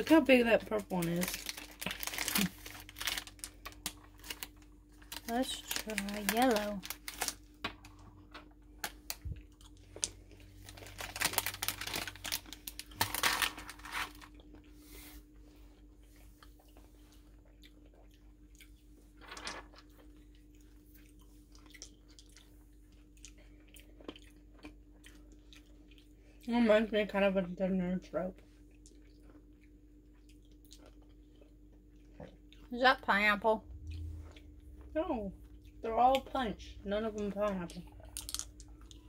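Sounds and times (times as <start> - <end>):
chewing and crunching candy: 0.0 - 27.4, 28.3 - 39.0.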